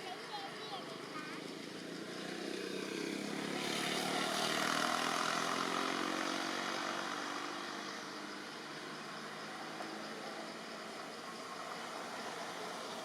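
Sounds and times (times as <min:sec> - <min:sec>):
engine passing by: 0:00.9 - 0:13.0.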